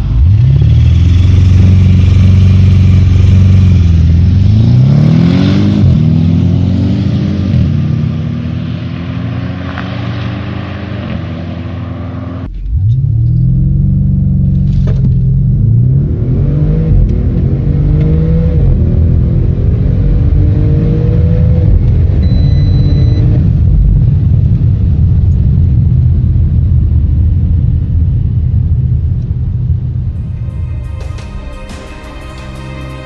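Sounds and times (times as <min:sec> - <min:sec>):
car engine accelerating hard: 0:00.0 - 0:31.3.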